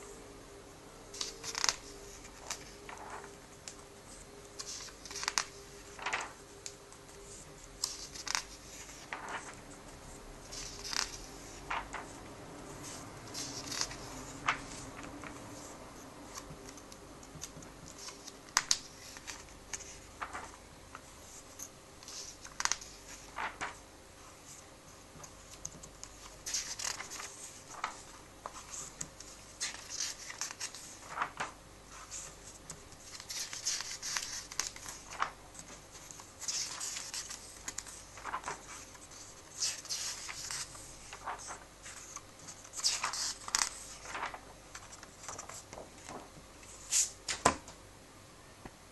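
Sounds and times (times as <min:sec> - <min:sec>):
paper pages rustling: 0:01.1 - 0:47.6.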